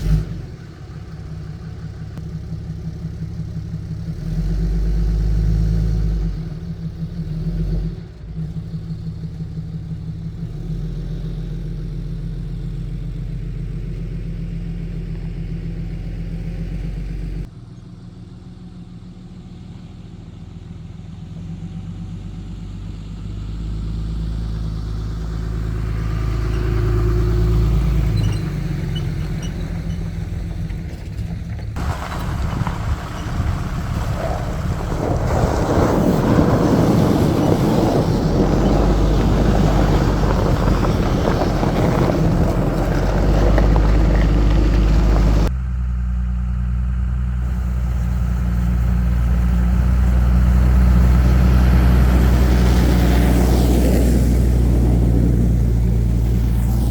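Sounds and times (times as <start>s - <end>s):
truck engine running: 0.0s - 7.1s, 7.9s - 56.9s
road and tyre noise: 0.0s - 56.9s.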